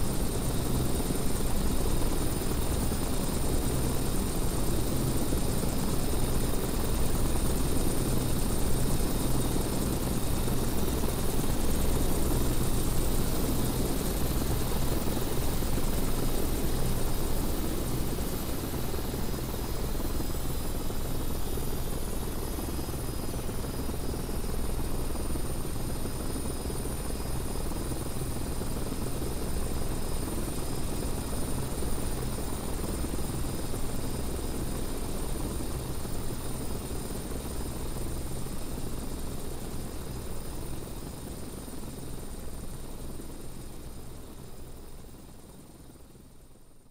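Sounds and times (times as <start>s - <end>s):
helicopter rotor and turbine: 0.0s - 46.9s.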